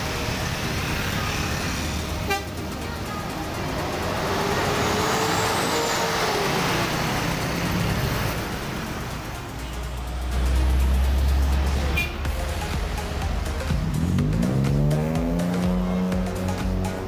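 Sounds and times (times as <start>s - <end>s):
bus driving past: 0.0s - 17.0s
street traffic: 0.0s - 17.0s.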